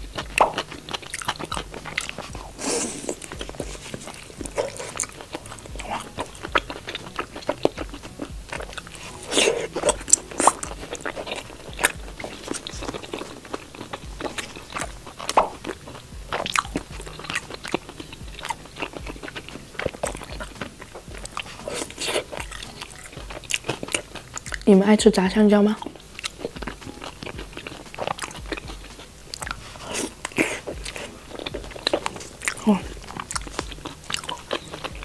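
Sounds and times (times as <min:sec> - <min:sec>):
person biting and chewing food: 0:00.0 - 0:24.7, 0:25.8 - 0:35.0.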